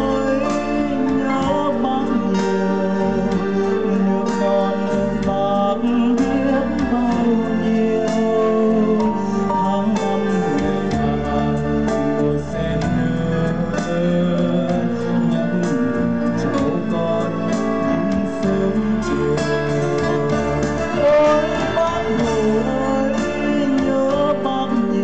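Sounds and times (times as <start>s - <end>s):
live band playing: 0.0s - 25.0s
man singing into a microphone: 0.0s - 25.0s.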